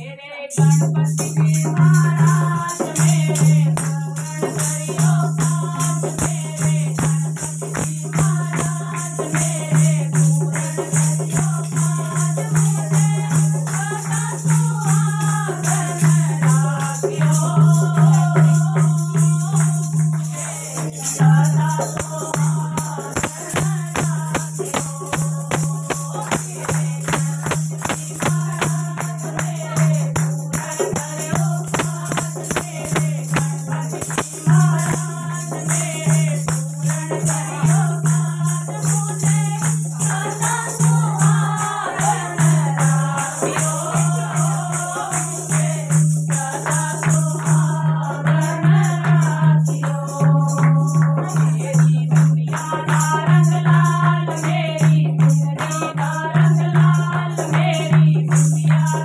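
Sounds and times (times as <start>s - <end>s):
jingling tambourine: 0.0s - 59.0s
women singing in unison: 0.0s - 59.0s
dholak drum: 0.5s - 59.0s
hand clapping: 1.6s - 59.0s.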